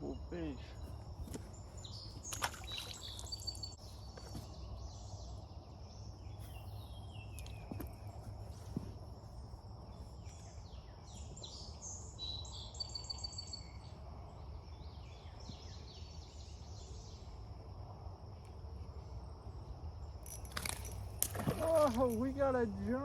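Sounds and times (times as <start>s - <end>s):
birds chirping: 0.0s - 17.6s, 18.9s - 23.0s.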